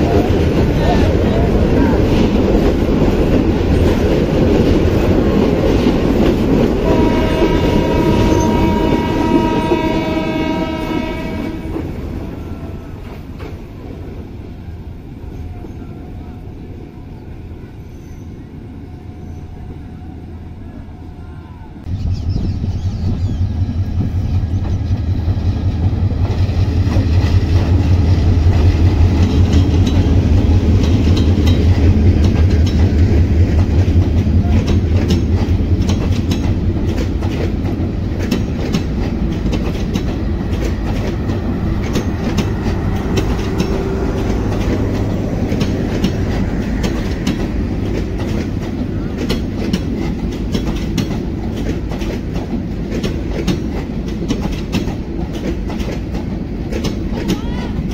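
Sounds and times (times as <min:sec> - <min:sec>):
train wheels clattering on rails: 0:00.0 - 0:14.4, 0:22.6 - 0:57.9
diesel locomotive engine drone: 0:00.0 - 0:57.9.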